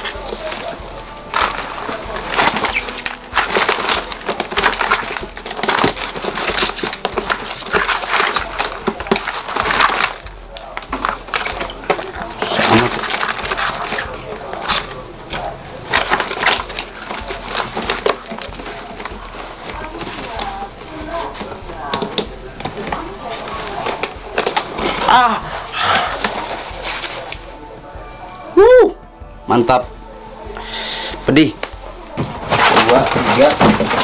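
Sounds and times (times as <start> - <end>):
plastic crate lid crackling: 0.0 - 27.5, 31.6 - 34.0
cricket trill: 0.0 - 34.0.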